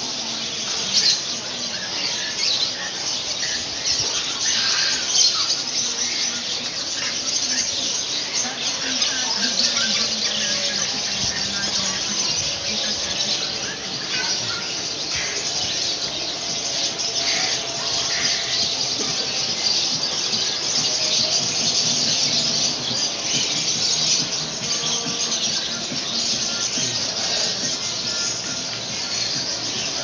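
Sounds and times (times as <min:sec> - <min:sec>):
caged birds chirping and squawking: 0:00.0 - 0:30.0.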